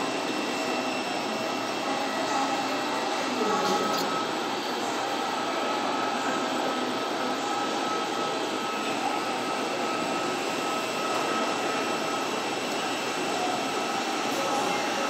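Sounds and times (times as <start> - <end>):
auxiliary power unit whine: 0.0 - 15.0.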